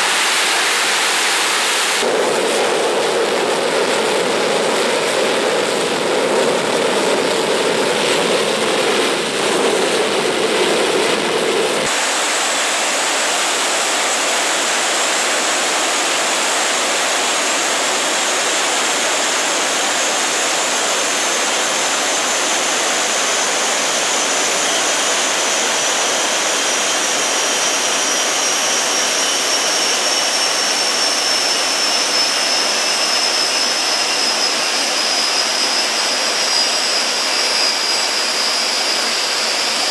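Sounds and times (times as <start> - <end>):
gas turbine rushing: 0.0 - 39.9
high compressor whine: 0.0 - 39.9.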